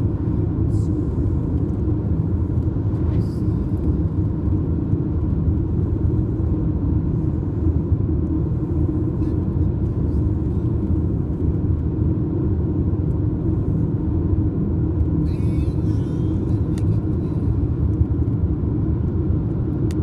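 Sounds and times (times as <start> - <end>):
road and engine rumble: 0.0 - 20.0.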